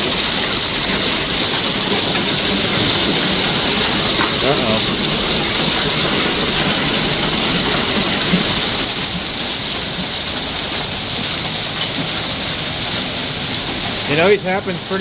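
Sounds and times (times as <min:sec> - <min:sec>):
hailstones ticking: 0:00.0 - 0:15.0
heavy rain and hail: 0:00.0 - 0:15.0.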